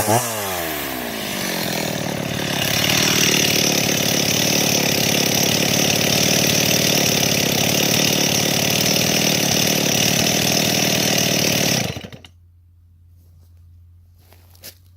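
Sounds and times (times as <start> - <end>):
chainsaw running: 0.0 - 12.4.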